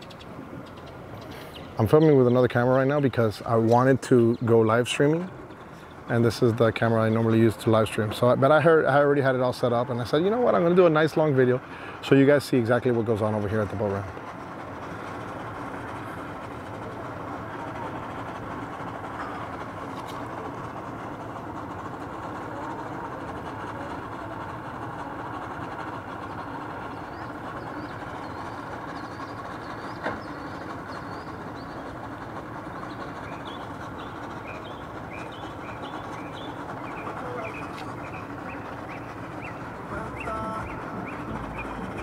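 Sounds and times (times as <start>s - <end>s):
birds chirping: 0.0s - 13.8s, 14.8s - 42.0s
outboard motors idling: 0.0s - 42.0s.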